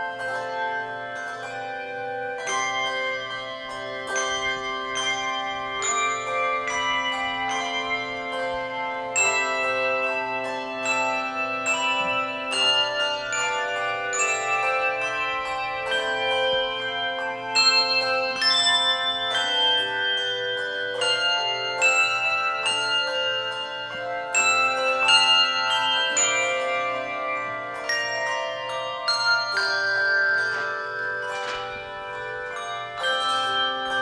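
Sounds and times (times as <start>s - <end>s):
handbell choir playing: 0.0s - 34.0s.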